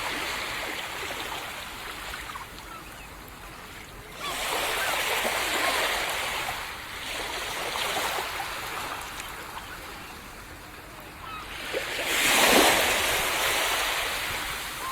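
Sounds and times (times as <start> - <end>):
sea waves washing onto beach: 0.0 - 14.9.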